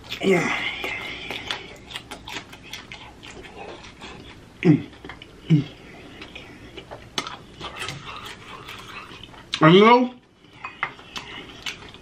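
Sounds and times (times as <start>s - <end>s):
wet chewing and lip-smacking: 0.0s - 9.7s, 10.3s - 12.0s.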